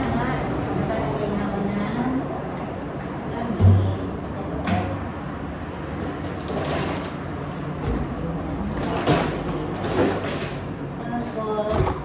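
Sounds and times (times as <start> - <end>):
laundry machines humming: 0.0 - 12.0.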